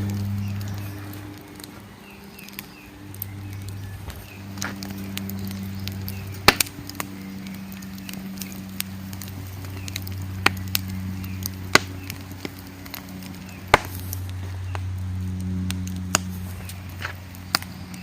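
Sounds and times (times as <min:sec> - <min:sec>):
sharp pops of fire: 0:00.0 - 0:18.0
steady low hum: 0:00.0 - 0:18.0
wood fire crackling: 0:00.0 - 0:18.0.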